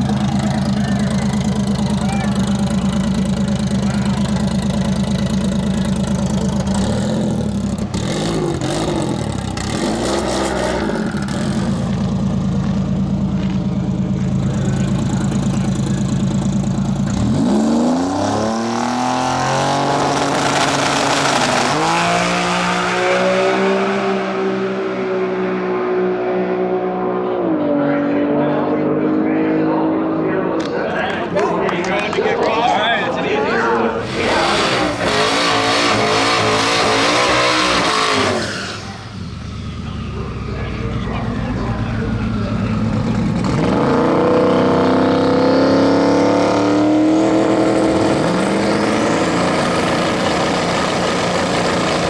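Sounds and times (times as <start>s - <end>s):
racing car engine revving: 0.0s - 52.0s.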